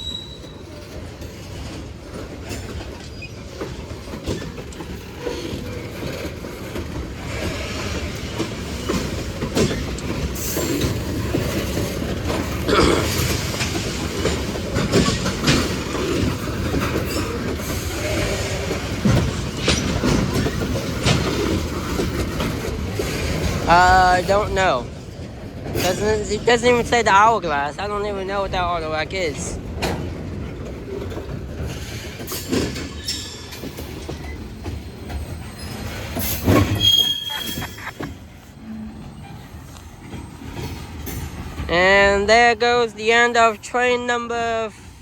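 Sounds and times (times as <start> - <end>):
freight train wheels clattering: 0.0 - 45.0.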